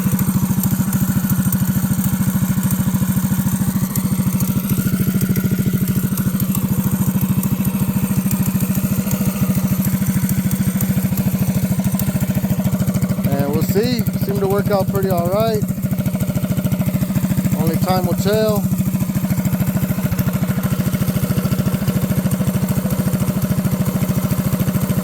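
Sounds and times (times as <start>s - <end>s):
small engine running steadily: 0.0s - 25.0s.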